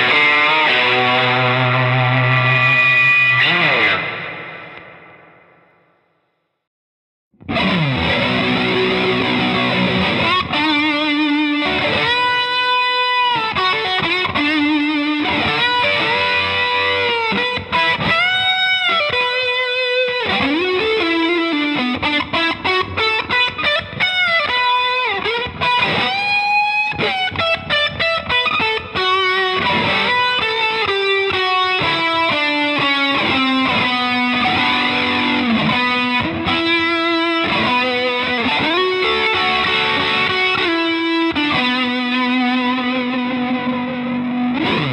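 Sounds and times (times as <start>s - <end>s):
distorted electric guitar lead: 0.0s - 5.9s, 7.4s - 44.9s.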